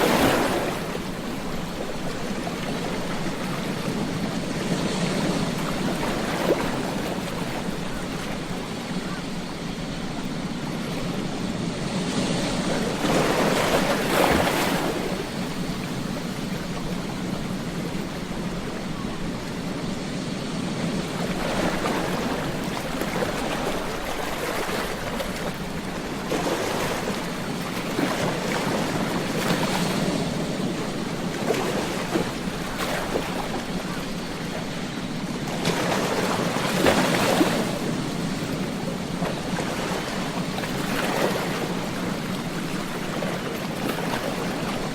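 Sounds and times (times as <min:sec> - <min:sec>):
ocean waves washing on beach: 0:00.0 - 0:44.9.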